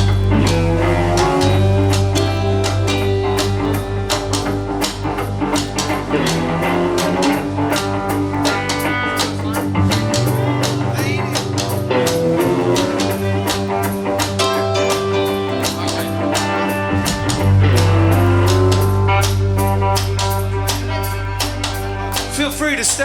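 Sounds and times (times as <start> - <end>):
bass guitar: 0.0 - 23.0
drum kit beat: 0.0 - 23.0
guitars: 0.0 - 23.0.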